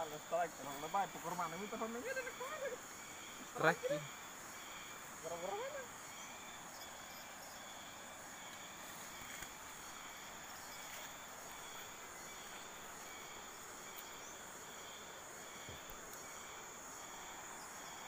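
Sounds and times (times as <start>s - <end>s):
insects chorus: 0.0s - 18.0s
soft outdoor hiss: 0.0s - 18.0s.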